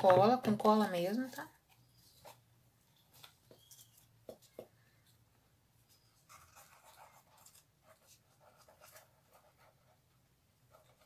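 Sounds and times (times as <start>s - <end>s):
soft scratchy rustling: 0.2s - 5.2s, 5.8s - 10.1s.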